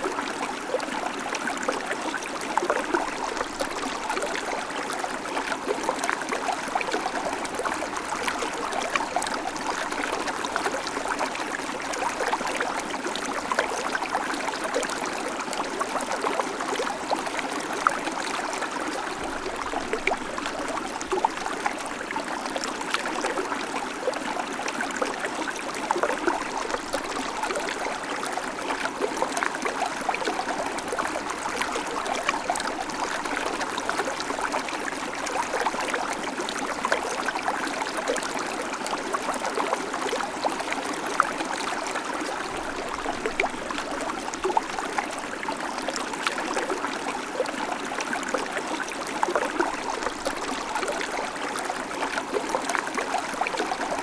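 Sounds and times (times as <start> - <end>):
creek water over stones: 0.0 - 54.0.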